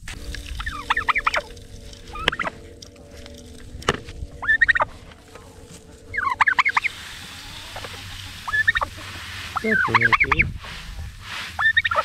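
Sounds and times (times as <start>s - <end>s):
turkey gobbling: 0.6s - 12.0s.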